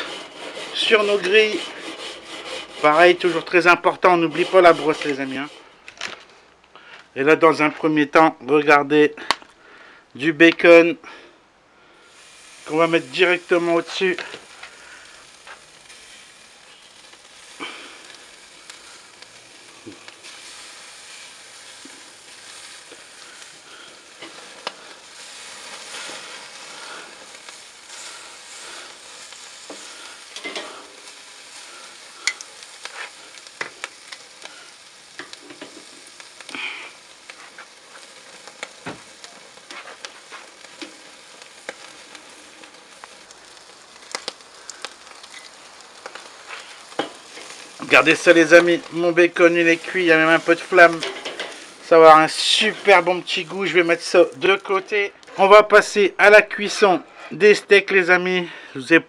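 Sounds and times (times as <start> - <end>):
bacon sizzling on grill: 0.0 - 6.4, 10.6 - 58.2.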